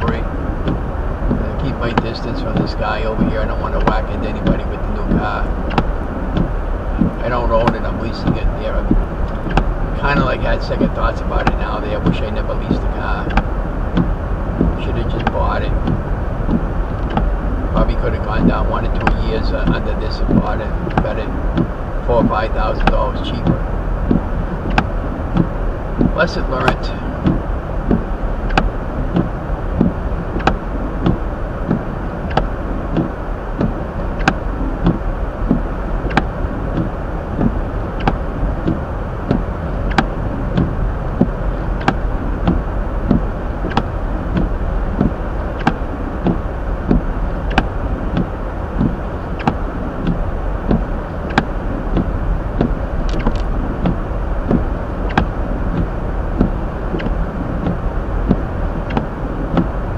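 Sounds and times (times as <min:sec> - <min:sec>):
road and engine noise: 0:00.0 - 0:59.9
windshield wipers knocking: 0:00.0 - 0:59.9.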